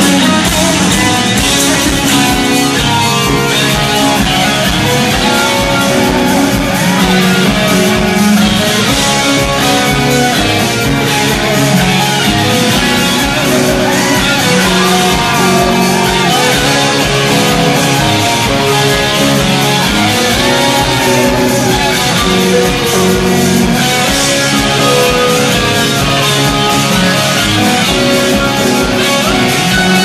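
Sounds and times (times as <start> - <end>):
bass guitar: 0.0 - 30.0
drum beat: 0.0 - 30.0
electric guitar bending notes: 0.0 - 30.0.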